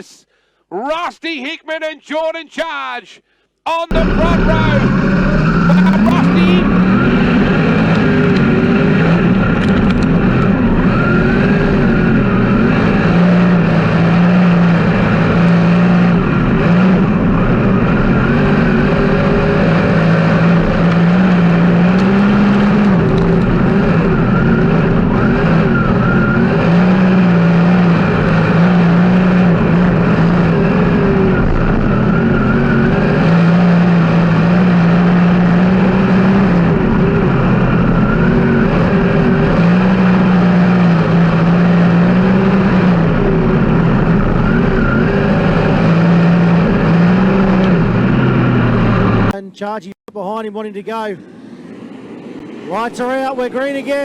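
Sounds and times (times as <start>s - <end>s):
racing car engines droning: 3.7s - 49.4s, 50.4s - 54.0s.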